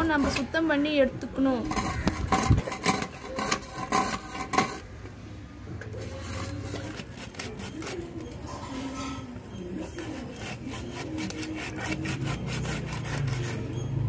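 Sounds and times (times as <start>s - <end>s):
metal scaler scraping fish scales: 1.5s - 4.9s, 6.0s - 14.0s.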